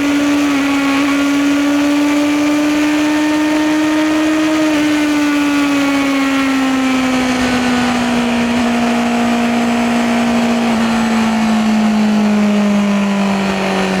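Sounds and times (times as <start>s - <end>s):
motorcycle engine slowing: 0.0s - 14.0s.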